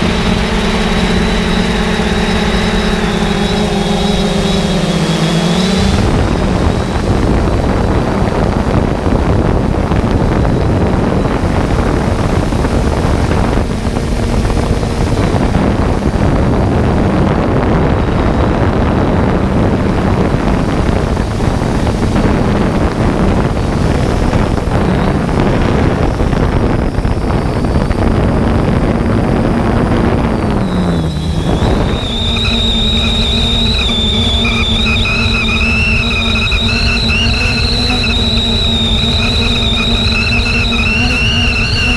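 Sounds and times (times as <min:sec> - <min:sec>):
faint motor hum: 0:00.0 - 0:41.9
rushing air: 0:00.0 - 0:41.9
steady tones: 0:00.0 - 0:41.9.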